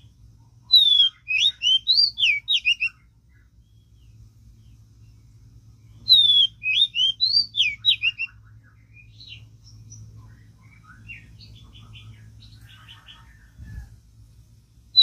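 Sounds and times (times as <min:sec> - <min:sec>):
bird chirps and calls: 0:00.0 - 0:14.0
songbird whistled song: 0:00.0 - 0:14.0.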